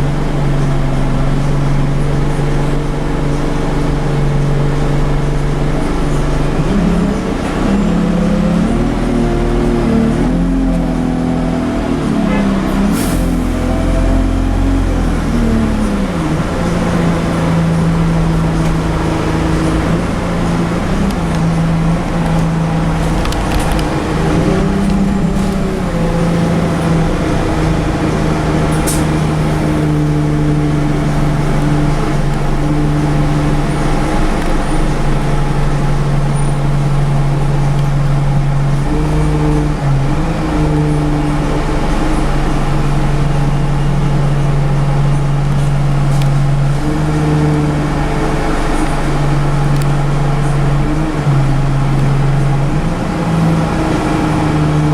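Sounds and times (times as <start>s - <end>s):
bus engine running: 0.0s - 54.9s.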